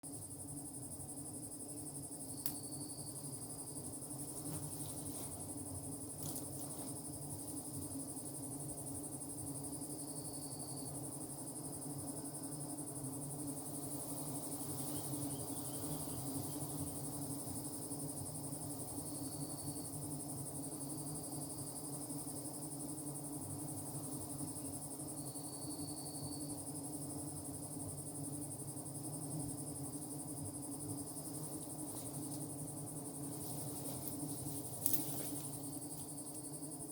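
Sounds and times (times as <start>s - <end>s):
high-pitched insect chorus: 0.1s - 36.9s.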